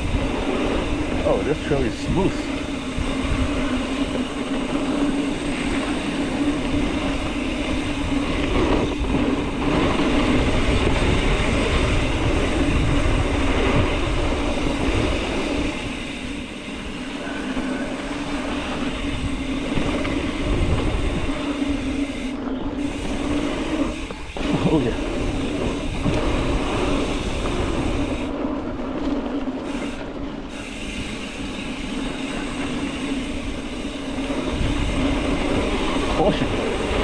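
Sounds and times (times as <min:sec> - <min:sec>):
bike tyre and drivetrain hum: 0:00.0 - 0:37.0
wind rumble on microphone: 0:00.0 - 0:37.0.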